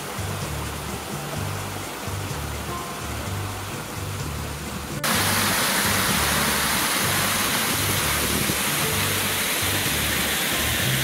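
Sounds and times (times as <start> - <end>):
background music with bass: 0.0 - 11.0
small waterfall splashing: 0.0 - 11.0.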